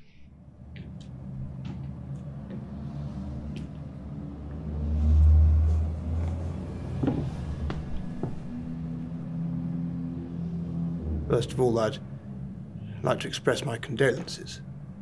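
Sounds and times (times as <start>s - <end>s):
low rumbling film score drone: 0.0s - 15.0s.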